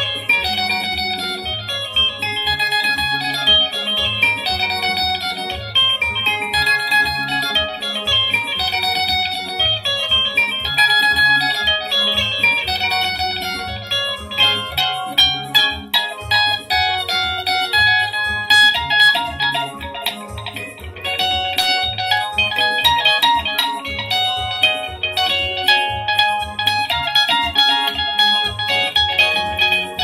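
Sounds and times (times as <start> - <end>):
electric guitar melodic lines: 0.0 - 30.0
electronic keyboard: 0.0 - 30.0
pulsing bass line: 0.0 - 30.0.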